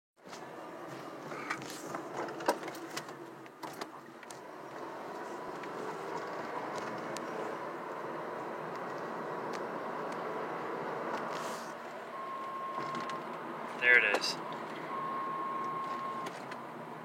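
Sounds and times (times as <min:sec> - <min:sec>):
car road and engine noise: 0:00.2 - 0:17.0.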